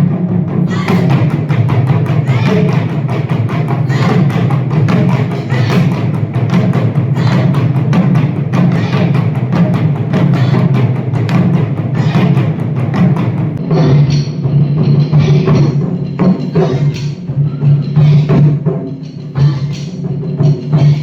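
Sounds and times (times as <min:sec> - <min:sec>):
taiko drums playing fast rhythm: 0:00.0 - 0:21.0.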